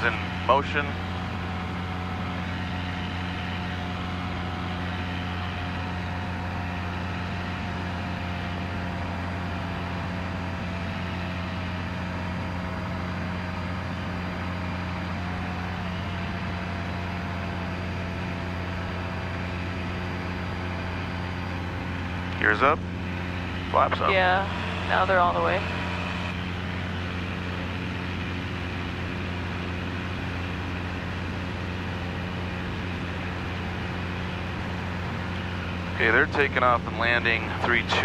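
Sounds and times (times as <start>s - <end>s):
airplane engine and propeller droning: 0.0s - 38.0s
thin steady hydraulic pump whine: 0.0s - 38.0s.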